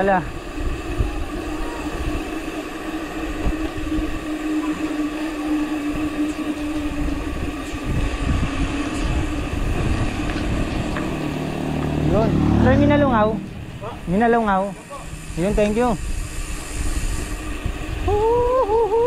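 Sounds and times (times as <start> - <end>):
steady droning hum: 0.0 - 19.0
wind rumbling on microphone: 0.0 - 19.0.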